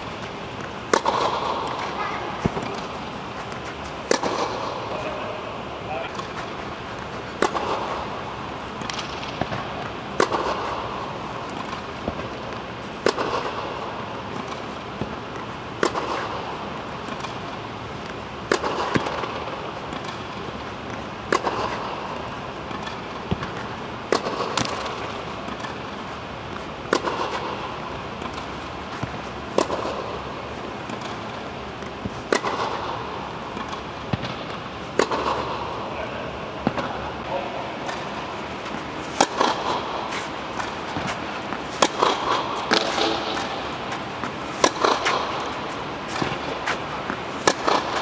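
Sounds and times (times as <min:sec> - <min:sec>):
tennis ball bouncing: 0:00.0 - 0:35.9, 0:36.5 - 0:48.0
racket hitting tennis ball: 0:00.0 - 0:48.0.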